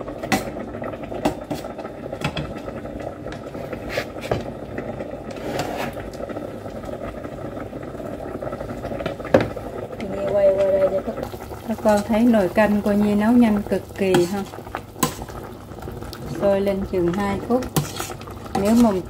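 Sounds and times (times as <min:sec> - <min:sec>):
pot of soup boiling: 0:00.0 - 0:19.0.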